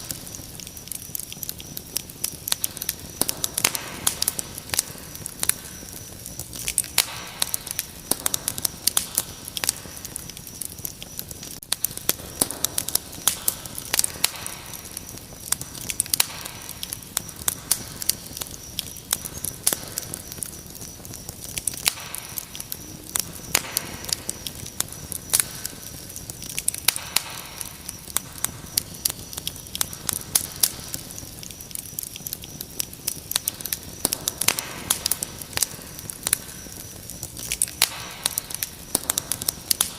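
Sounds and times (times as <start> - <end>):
crickets trilling: 0.0 - 39.9
wood fire crackling: 0.0 - 39.9.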